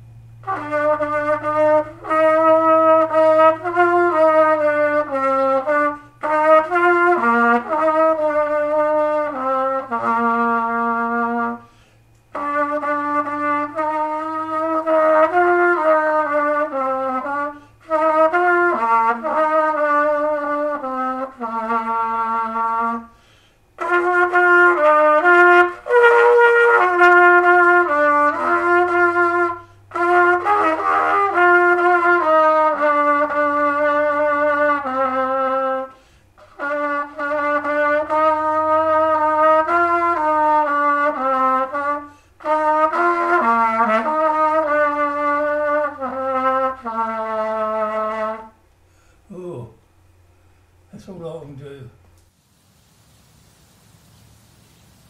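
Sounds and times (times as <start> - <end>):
brass instrument slow melody: 0.0 - 49.6.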